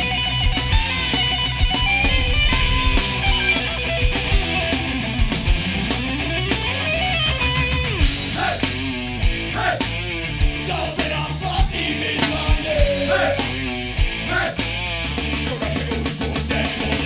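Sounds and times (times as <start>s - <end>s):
distorted electric guitars: 0.0s - 17.0s
drum kit: 0.0s - 17.0s.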